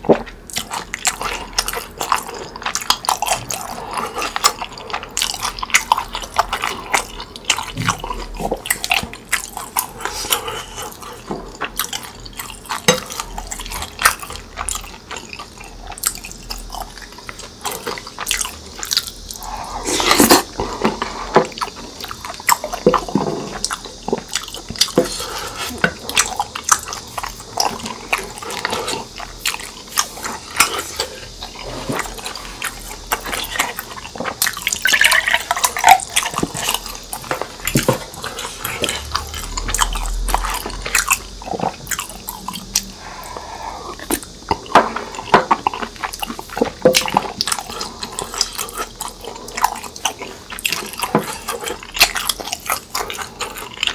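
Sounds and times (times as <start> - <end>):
wet chewing and slurping: 0.0 - 53.9.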